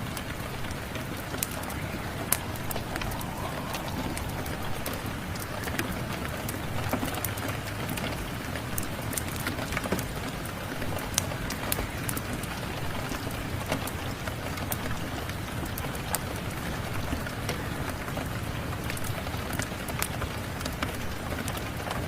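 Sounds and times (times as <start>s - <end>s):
fireplace fire crackling: 0.0s - 18.1s
steady rain: 0.0s - 22.0s.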